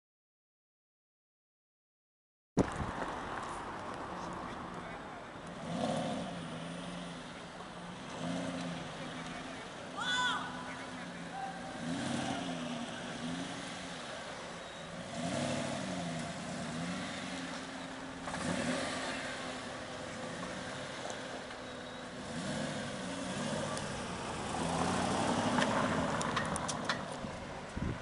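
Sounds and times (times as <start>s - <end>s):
car engine idling and revving: 2.6s - 28.0s.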